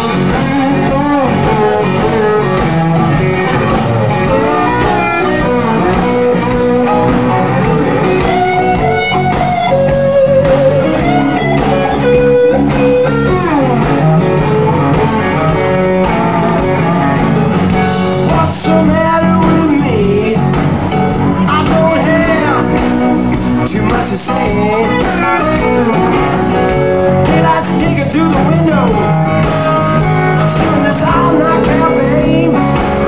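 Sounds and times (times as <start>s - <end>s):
blues-rock band playing: 0.0s - 33.0s
electric guitar lead bending notes: 0.0s - 33.0s.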